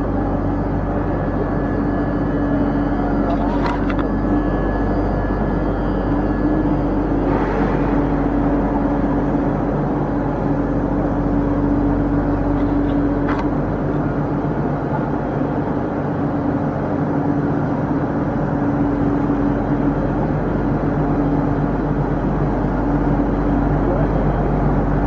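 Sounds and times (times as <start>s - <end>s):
train engine drone: 0.0s - 25.0s.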